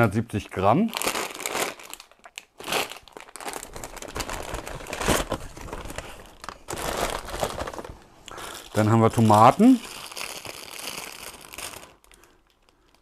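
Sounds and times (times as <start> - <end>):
plastic packaging crinkling: 0.8 - 13.0
paper bag crinkling: 1.0 - 13.0.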